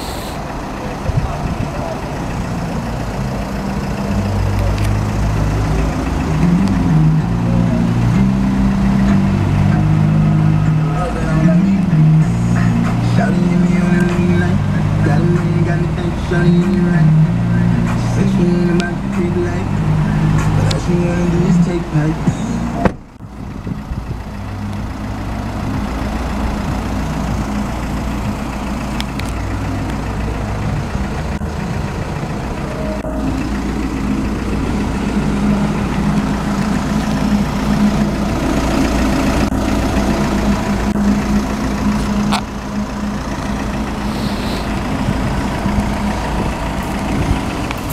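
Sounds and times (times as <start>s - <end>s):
diesel van engine idling: 0.0s - 47.9s.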